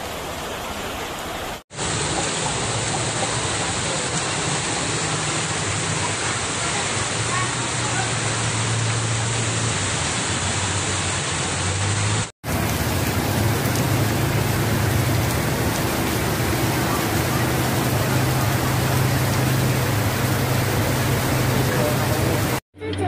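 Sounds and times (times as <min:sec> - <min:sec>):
heavy rain on flooded street: 0:00.0 - 0:22.6
traffic driving through water: 0:00.0 - 0:22.6.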